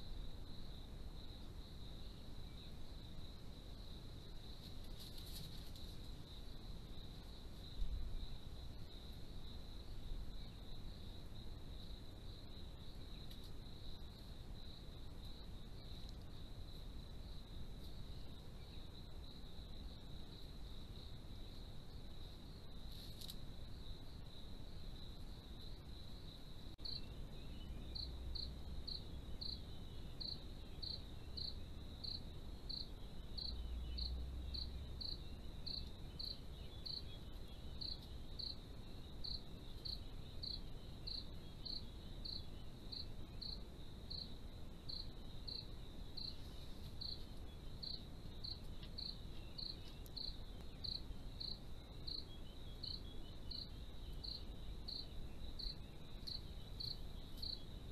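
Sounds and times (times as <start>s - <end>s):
cricket trilling: 0.0s - 57.9s.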